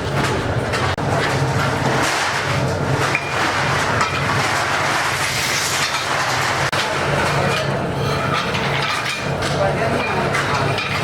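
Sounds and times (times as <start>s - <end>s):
continuous clatter: 0.0s - 11.0s.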